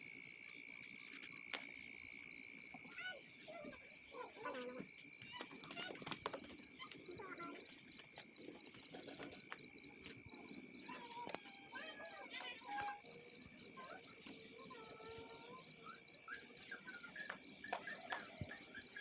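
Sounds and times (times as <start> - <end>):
pulsing high insect trill: 0.0 - 19.0
bird chirps: 0.4 - 19.0.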